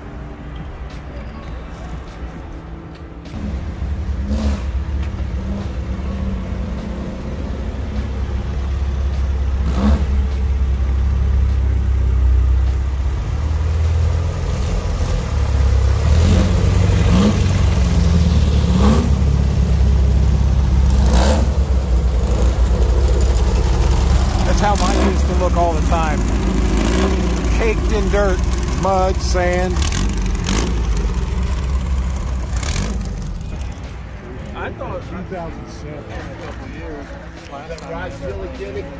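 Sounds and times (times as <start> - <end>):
dune buggy engine idling: 3.4 - 34.8.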